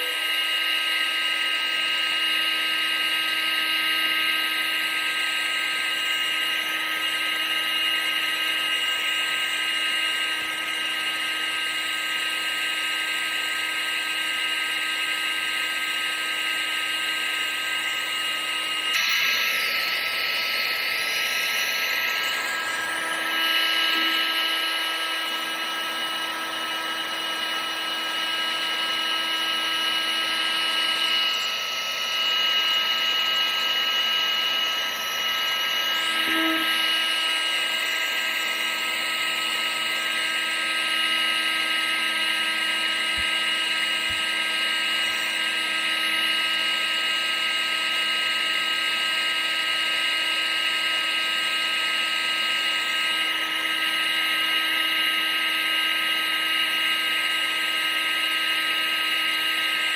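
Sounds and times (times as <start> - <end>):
appliance motor whine: 0.0 - 59.9.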